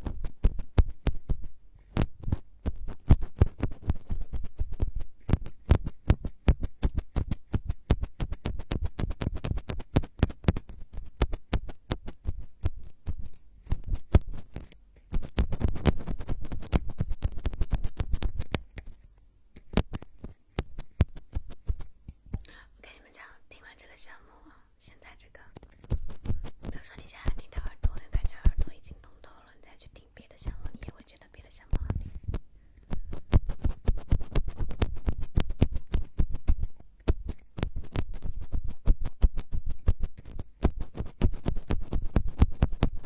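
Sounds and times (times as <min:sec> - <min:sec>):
rapid scratching strokes: 0:00.0 - 0:22.0, 0:25.8 - 0:29.0, 0:31.7 - 0:43.0.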